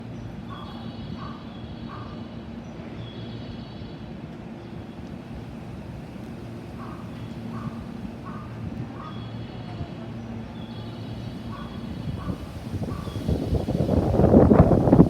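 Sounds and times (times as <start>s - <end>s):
train humming and rumbling: 0.0s - 15.0s.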